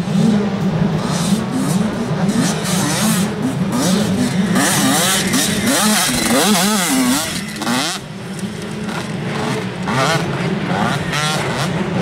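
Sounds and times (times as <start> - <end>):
motocross bike revving: 0.0 - 12.0
steady engine drone: 0.0 - 12.0.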